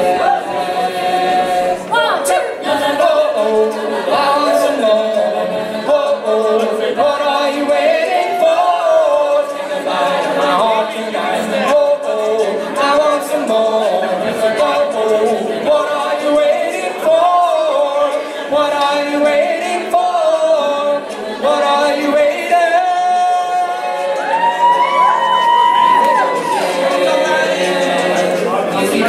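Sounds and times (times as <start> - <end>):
a cappella group singing: 0.0 - 29.0.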